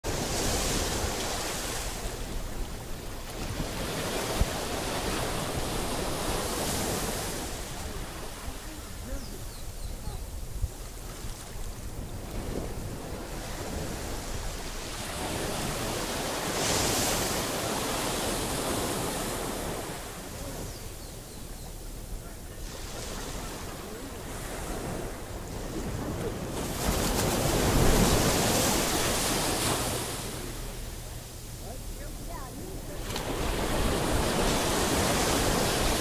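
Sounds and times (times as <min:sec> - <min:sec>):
sea waves breaking on beach: 0:00.0 - 0:21.2, 0:21.8 - 0:36.0
wind on microphone: 0:00.0 - 0:31.6.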